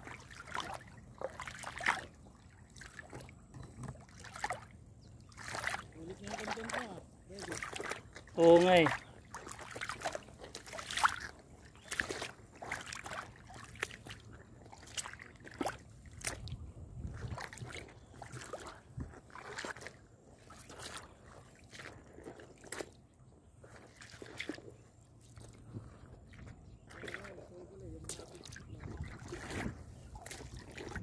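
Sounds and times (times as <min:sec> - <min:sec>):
water splashing and gurgling: 0:00.0 - 0:31.0.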